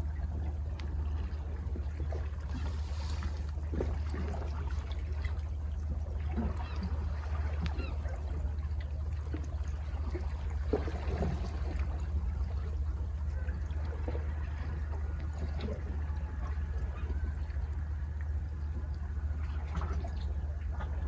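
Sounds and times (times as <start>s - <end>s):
low rumble: 0.0s - 21.0s
sea water lapping on rocks: 0.0s - 21.0s
small splashes: 0.8s - 21.0s.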